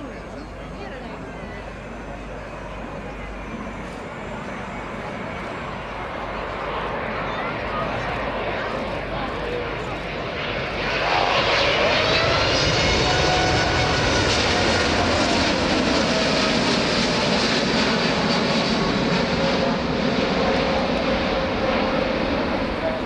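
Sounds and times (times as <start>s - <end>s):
jet airliner roaring overhead: 0.0s - 23.0s.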